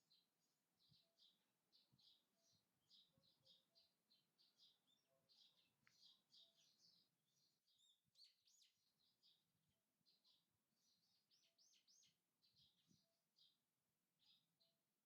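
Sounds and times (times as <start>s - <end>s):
small birds chirping: 0.0s - 13.6s, 14.2s - 14.8s.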